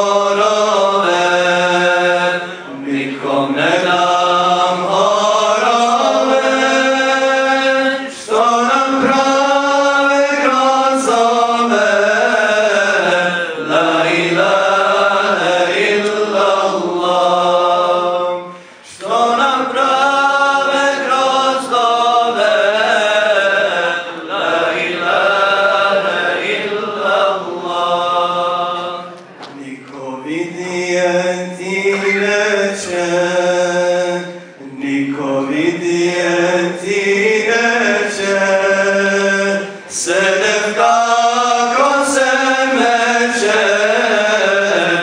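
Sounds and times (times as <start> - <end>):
man chanting religious song: 0.0 - 45.0.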